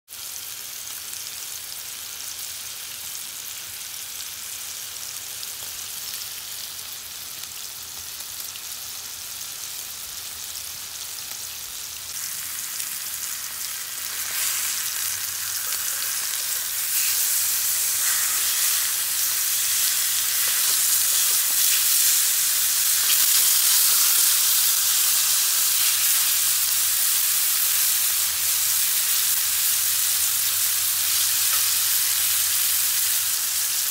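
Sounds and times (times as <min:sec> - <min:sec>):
steaks sizzling in skillet: 0:00.1 - 0:33.9.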